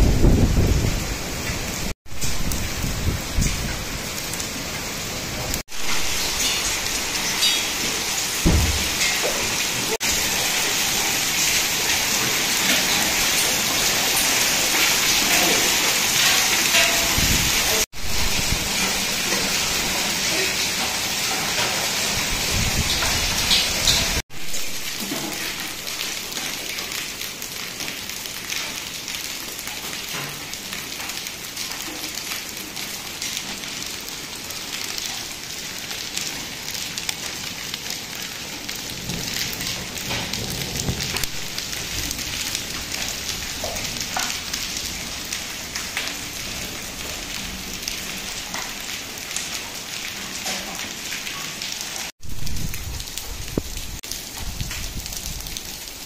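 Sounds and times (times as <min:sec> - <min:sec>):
heavy rain and hail on concrete: 0:00.0 - 0:56.0.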